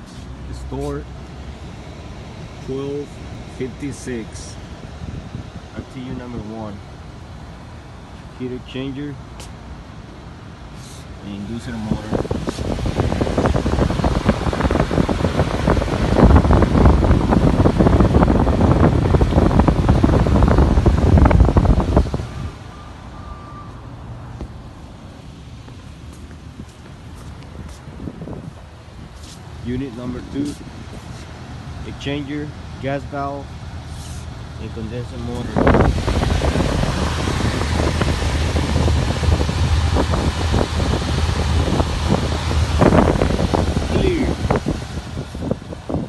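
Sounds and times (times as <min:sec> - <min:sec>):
low machine hum: 0:00.0 - 0:46.0
steady background noise: 0:00.0 - 0:46.0
wind buffeting the microphone: 0:03.3 - 0:06.6, 0:11.4 - 0:33.5, 0:34.3 - 0:46.0.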